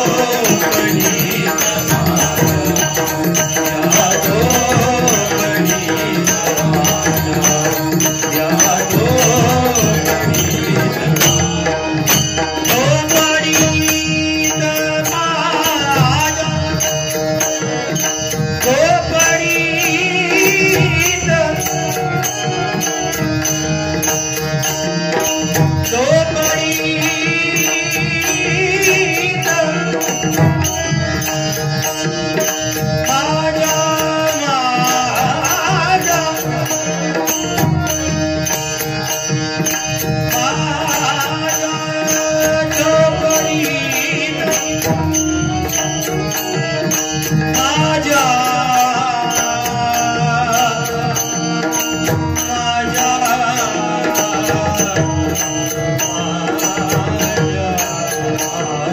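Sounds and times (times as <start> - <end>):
man singing: 0.0 - 58.9.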